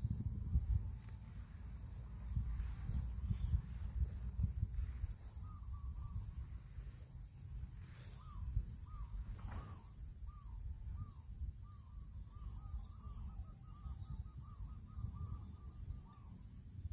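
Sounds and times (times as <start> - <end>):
steady low rumble: 0.0 - 16.9
bird calling: 2.6 - 16.7.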